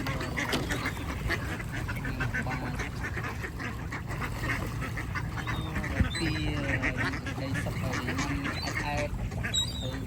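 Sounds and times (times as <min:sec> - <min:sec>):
ducks quacking: 0:00.0 - 0:10.0.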